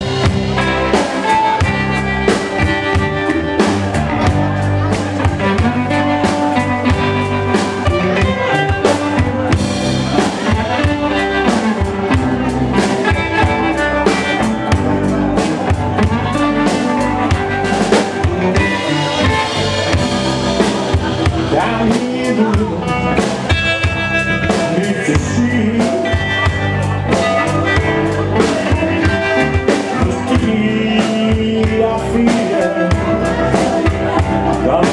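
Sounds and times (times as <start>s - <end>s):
bass guitar: 0.0s - 34.9s
drum kit: 0.0s - 34.9s
guitar: 0.0s - 34.9s
keyboard: 0.0s - 34.9s.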